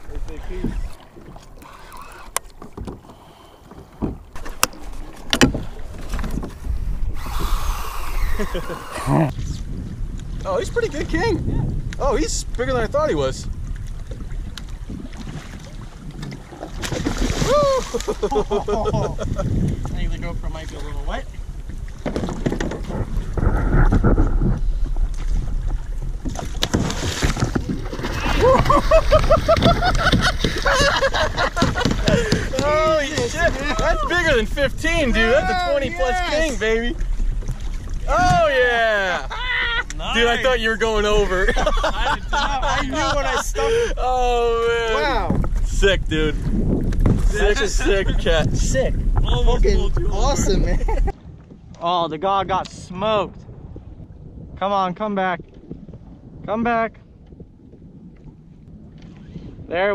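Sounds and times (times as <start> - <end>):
water sloshing against kayak hull: 0.0 - 12.6, 13.5 - 51.8, 57.0 - 59.6
wind on microphone: 0.0 - 59.9.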